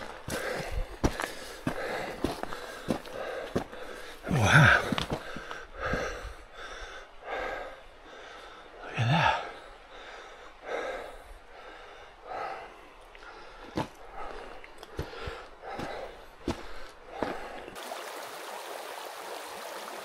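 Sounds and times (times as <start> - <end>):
man breathing hard and gasping: 0.0 - 17.8.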